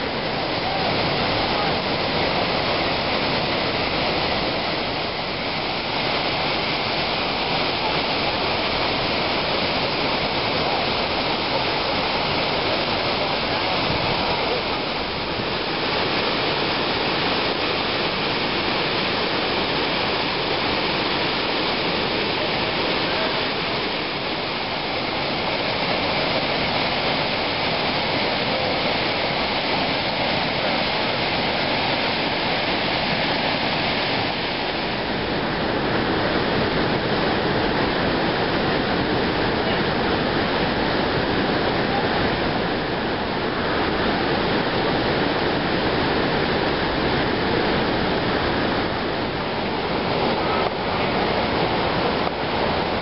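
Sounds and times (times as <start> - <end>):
waterfall and rapids roaring: 0.0 - 53.0.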